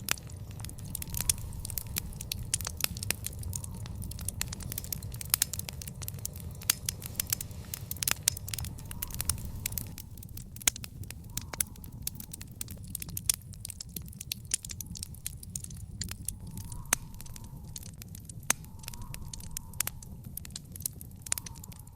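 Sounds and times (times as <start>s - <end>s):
fire crackling and popping: 0.0s - 21.9s
low rumble of flames: 0.0s - 21.9s.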